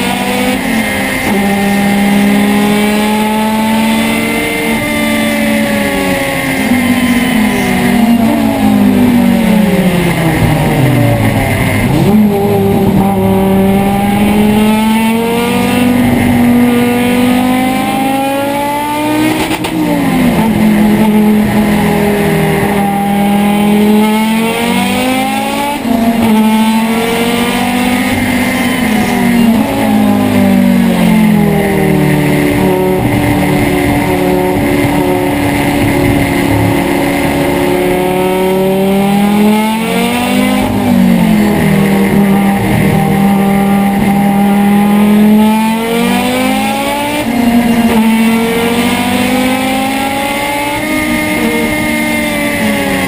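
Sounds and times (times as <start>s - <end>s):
race car engine pulling hard: 0.0s - 53.0s.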